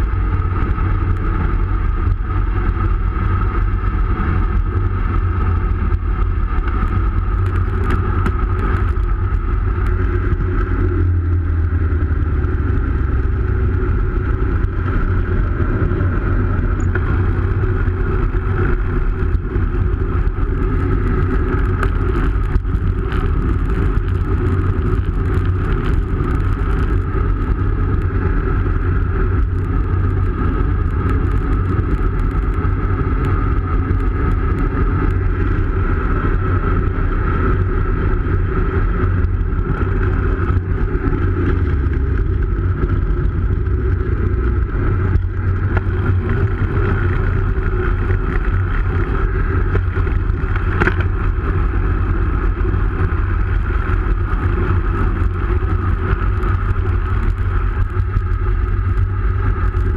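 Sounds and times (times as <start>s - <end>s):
bike tyres rolling on tarmac: 0.0s - 59.9s
wind buffeting microphone: 0.0s - 59.9s.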